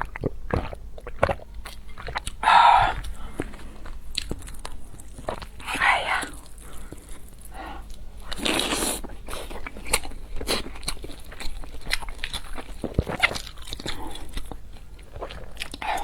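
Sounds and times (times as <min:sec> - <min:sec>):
person biting and chewing food: 0:00.0 - 0:16.0.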